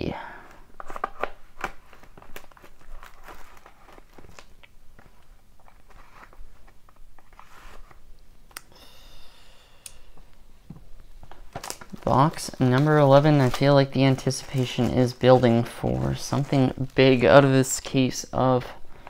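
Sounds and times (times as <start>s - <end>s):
wrapper rustling and tearing: 0.4s - 8.2s, 11.0s - 19.0s.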